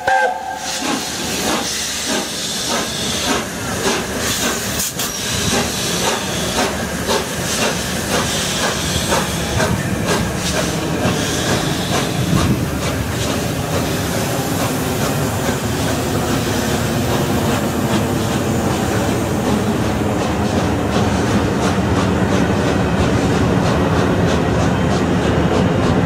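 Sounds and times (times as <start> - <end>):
steam locomotive hiss and exhaust: 0.0 - 26.0
train coaches rushing past: 0.0 - 26.0.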